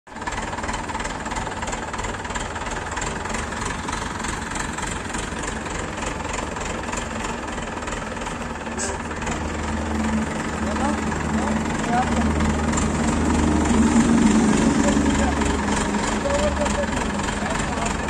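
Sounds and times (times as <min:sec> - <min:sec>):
diesel crane engine running: 0:00.1 - 0:18.0.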